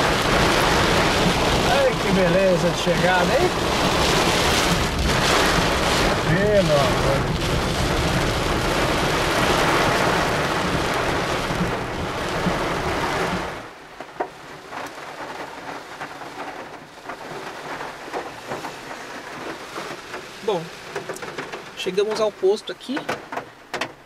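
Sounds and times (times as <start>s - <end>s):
heavy rain on car roof: 0.0s - 24.0s.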